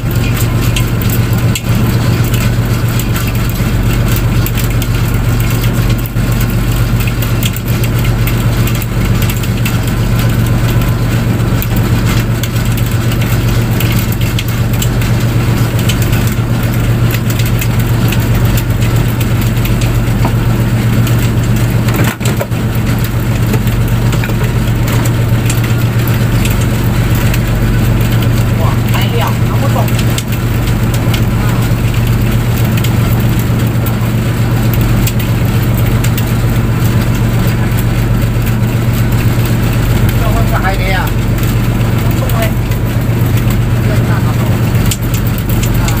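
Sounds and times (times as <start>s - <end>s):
boat engine droning: 0.0s - 46.0s
wind and water noise: 0.0s - 46.0s.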